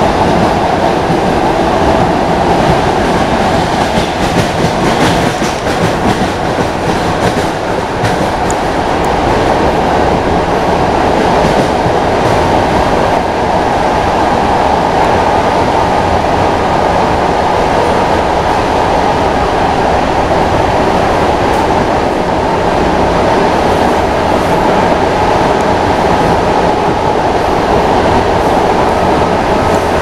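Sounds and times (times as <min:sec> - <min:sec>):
electric train running inside coach: 0:00.0 - 0:30.0.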